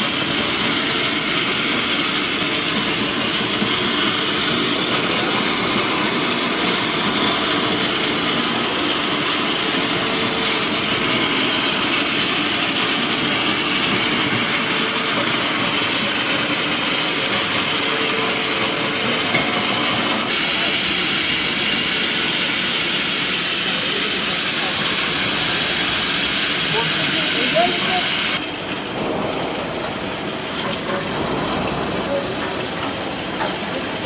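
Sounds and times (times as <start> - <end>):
machine running with hissing noise: 0.0 - 34.0.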